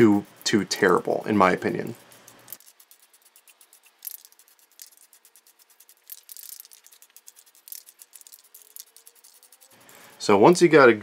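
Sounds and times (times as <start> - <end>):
spray can ball rattling: 0.0 - 11.0
spray paint hissing: 0.0 - 11.0.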